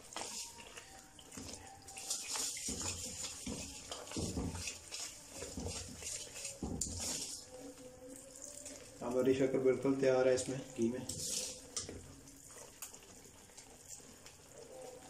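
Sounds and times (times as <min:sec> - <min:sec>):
ladle stirring in metal wok: 0:00.0 - 0:09.1, 0:10.4 - 0:15.0.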